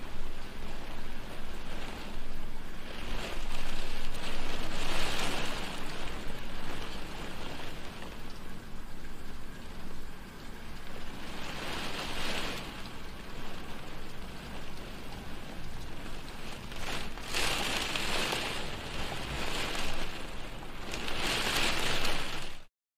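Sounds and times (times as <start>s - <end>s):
rain on a window pane: 0.0s - 22.7s.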